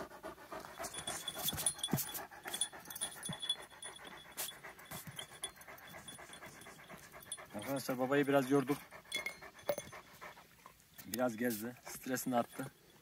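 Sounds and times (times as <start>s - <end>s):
dog panting: 0.0s - 12.8s.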